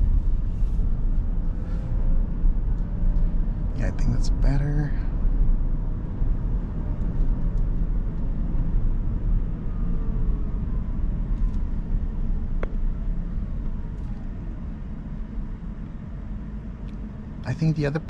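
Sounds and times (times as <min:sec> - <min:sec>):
road rumble and tyre noise: 0:00.0 - 0:18.0.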